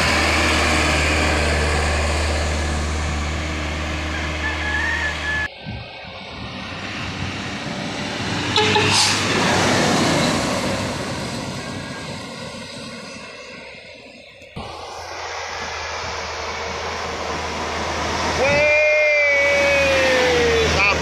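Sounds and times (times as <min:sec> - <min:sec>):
diesel truck passing: 0:00.0 - 0:21.0.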